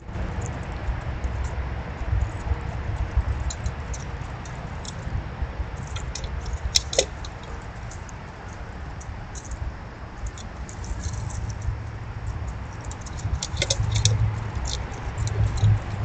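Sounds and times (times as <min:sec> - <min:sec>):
low steady rumble: 0:00.0 - 0:16.0
small clicks and ticks: 0:00.4 - 0:05.2, 0:05.8 - 0:09.6, 0:10.2 - 0:16.0.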